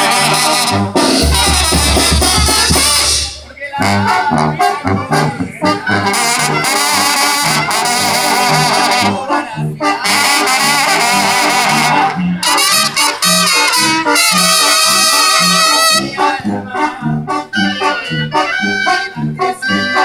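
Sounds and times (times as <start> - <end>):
pulsing tuba bass: 0.0 - 20.0
trumpets and trombones melody: 0.0 - 20.0.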